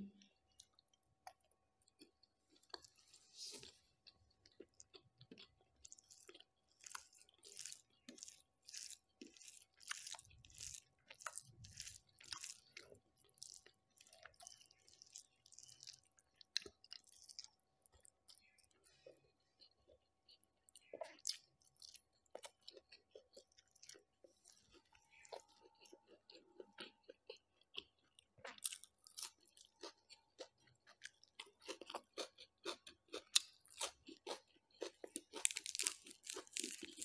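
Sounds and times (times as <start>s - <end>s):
person chewing food: 0.2s - 37.0s.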